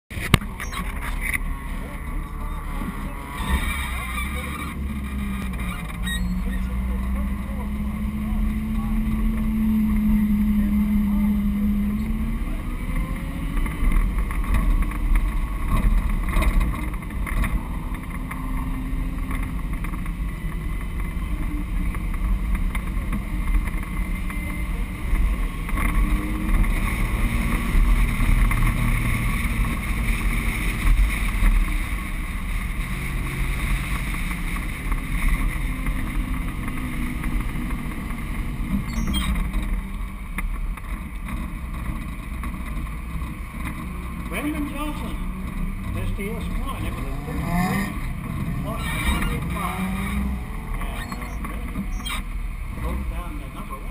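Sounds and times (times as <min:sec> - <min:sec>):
car engine revving: 0:00.1 - 0:53.9.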